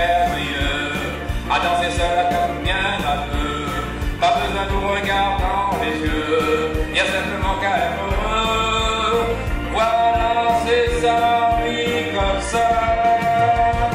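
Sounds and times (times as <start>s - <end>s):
upbeat keyboard tune with drums: 0.0s - 13.9s.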